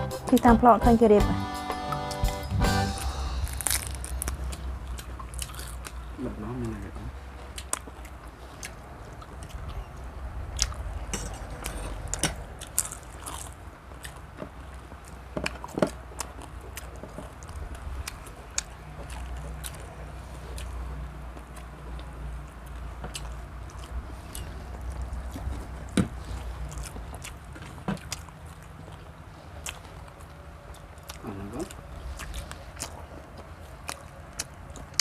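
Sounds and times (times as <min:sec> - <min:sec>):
steady low hum: 0:00.0 - 0:35.0
people chewing and biting: 0:01.8 - 0:35.0.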